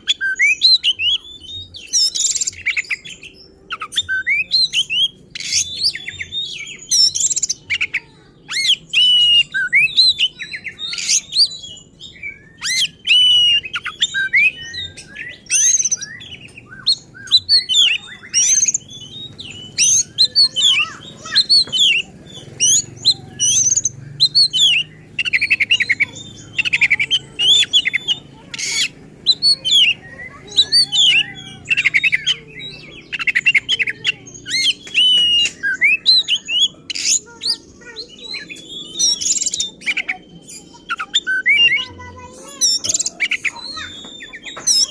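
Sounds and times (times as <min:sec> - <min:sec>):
magpie-robin singing: 0:00.0 - 0:44.9.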